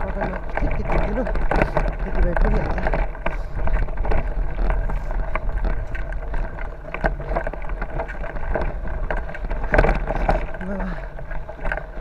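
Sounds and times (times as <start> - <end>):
bicycle rattling on dirt track: 0.0 - 12.0
wind buffeting microphone: 0.0 - 12.0.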